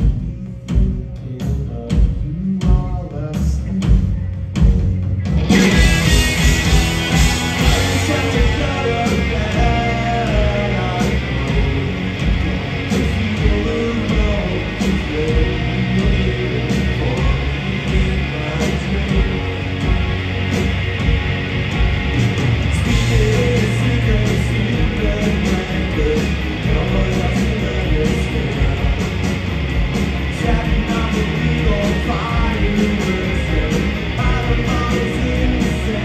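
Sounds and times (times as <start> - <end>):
drums and bass: 0.0 - 36.0
punk rock band playing: 0.0 - 36.0.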